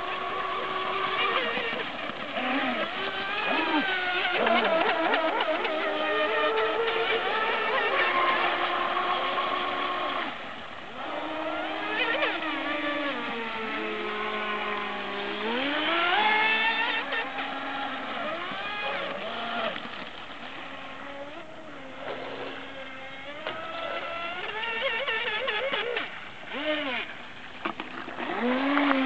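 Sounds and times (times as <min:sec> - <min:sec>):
electric boat motors whining: 0:00.0 - 0:29.0.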